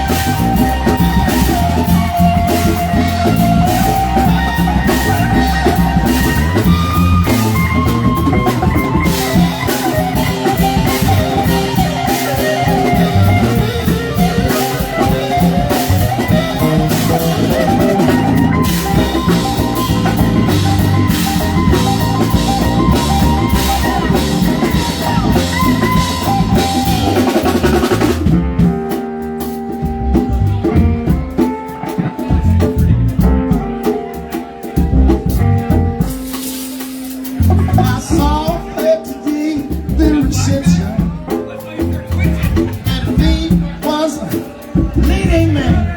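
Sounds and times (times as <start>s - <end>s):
drums and cymbals: 0.0s - 45.9s
live band playing: 0.0s - 45.9s.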